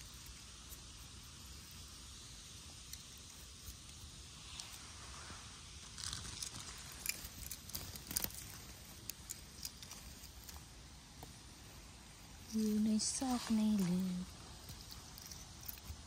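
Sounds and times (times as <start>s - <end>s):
grass and moss rustling: 0.0s - 16.0s.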